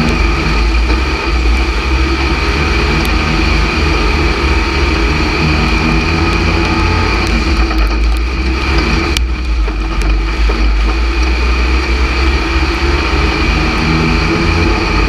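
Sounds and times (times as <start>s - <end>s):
other race cars: 0.0s - 15.0s
race car engine running hard: 0.0s - 15.0s.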